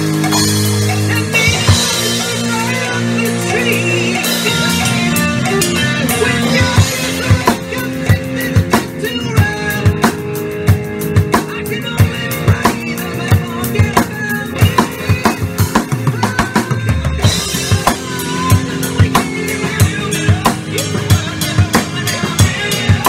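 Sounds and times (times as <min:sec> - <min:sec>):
drum kit playing: 0:00.0 - 0:23.0
rock backing track with guitar: 0:00.0 - 0:23.0.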